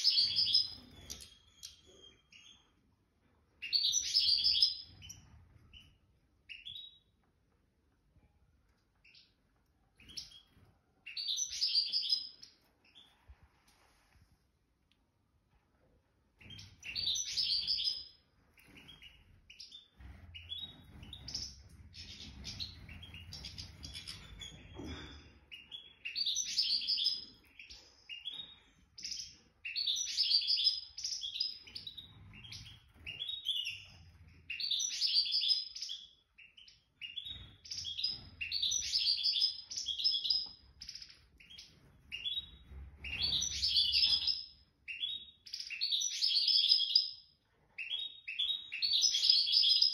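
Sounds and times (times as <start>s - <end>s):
bird twittering song: 0.0s - 2.8s, 3.6s - 7.2s, 10.0s - 13.2s, 16.4s - 49.9s.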